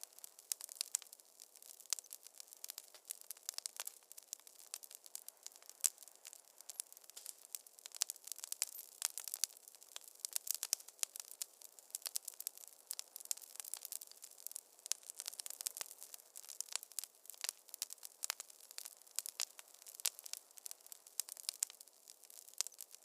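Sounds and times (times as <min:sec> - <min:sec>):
faint hiss: 0:00.0 - 0:23.0
wood fire crackling: 0:00.0 - 0:23.0.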